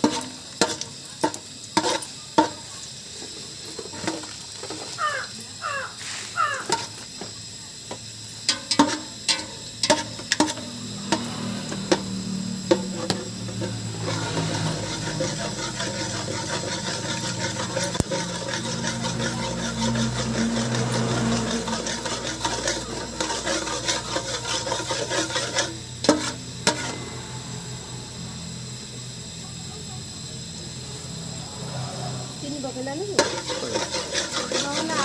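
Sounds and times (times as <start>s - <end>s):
spatula scraping pan: 0.0s - 7.3s, 8.4s - 28.0s, 31.1s - 35.0s
food sizzling in hot oil: 0.0s - 35.0s.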